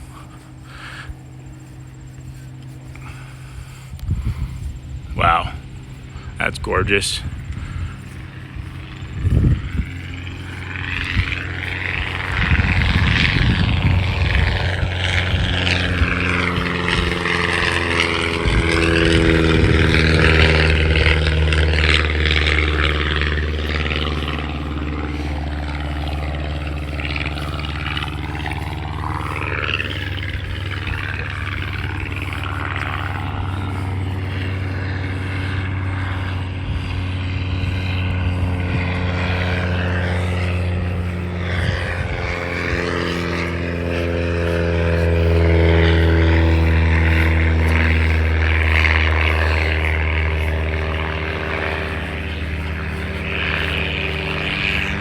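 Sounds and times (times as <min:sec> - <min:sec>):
propeller airplane engine running: 0:00.0 - 0:55.0.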